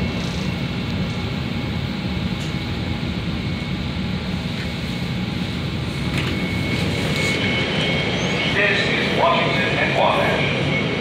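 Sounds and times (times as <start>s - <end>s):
train rumbling and hissing: 0.0s - 11.0s.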